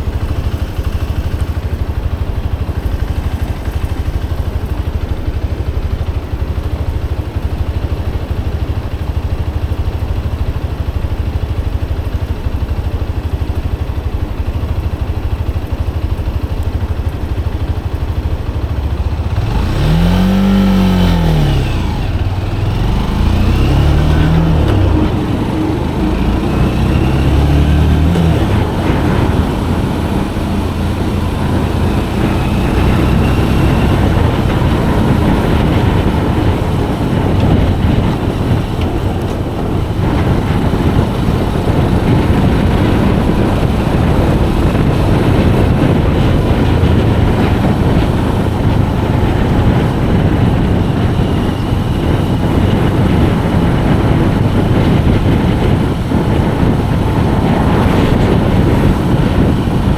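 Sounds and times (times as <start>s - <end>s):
motorcycle engine shifting gears: 0.0s - 59.9s
road rumble: 0.0s - 59.9s
wind noise: 0.0s - 59.9s.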